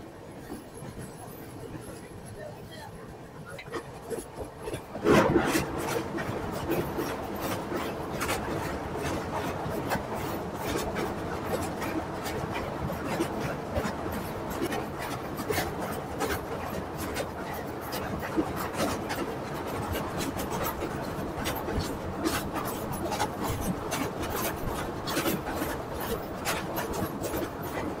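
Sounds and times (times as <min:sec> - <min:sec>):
train wheels rumbling on rails: 0:00.0 - 0:28.0
wind: 0:00.0 - 0:28.0.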